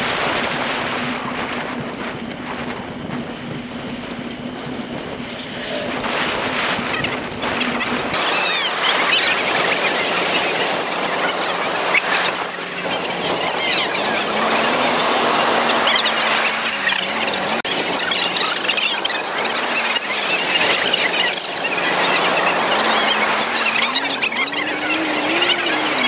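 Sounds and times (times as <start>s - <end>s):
heavy surf breaking: 0.0s - 26.0s
wind and bicycle rolling noise: 0.0s - 26.0s.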